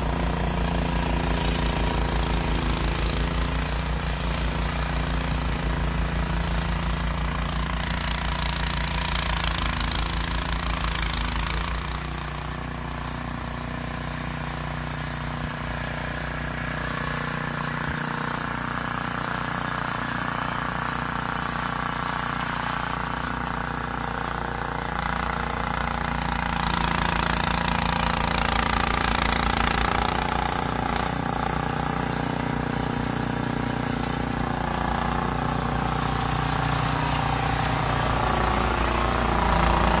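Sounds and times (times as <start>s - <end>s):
snowblower engine throwing snow: 0.0s - 40.0s.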